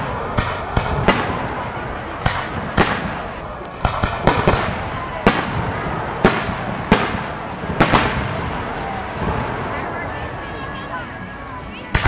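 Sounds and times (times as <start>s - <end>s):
continuous rumbling: 0.0s - 12.0s.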